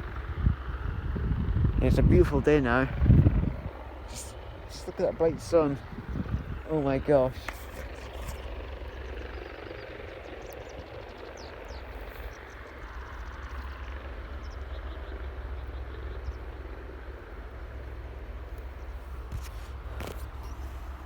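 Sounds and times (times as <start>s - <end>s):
helicopter engine and rotor rumble: 0.0s - 21.0s.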